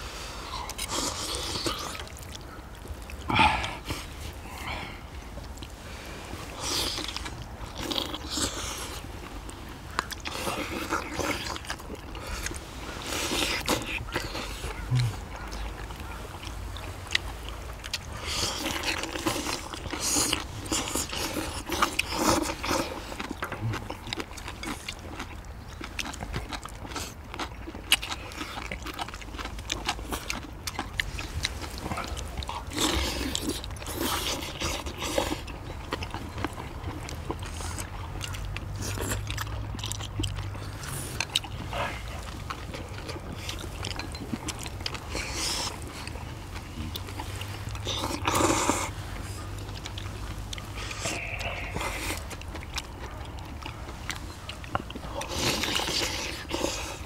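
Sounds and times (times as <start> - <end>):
people chewing: 0.0 - 57.0.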